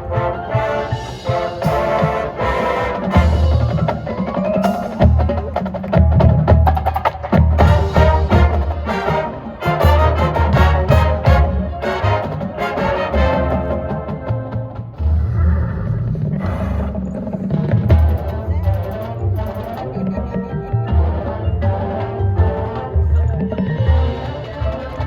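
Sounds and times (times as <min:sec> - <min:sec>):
marching band playing: 0:00.0 - 0:15.1, 0:16.9 - 0:25.0.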